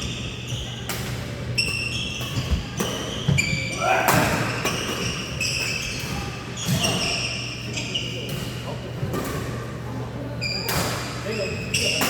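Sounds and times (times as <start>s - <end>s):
shoes squeaking on court floor: 0.0s - 9.4s, 10.4s - 12.0s
low hum of hall: 0.0s - 12.0s.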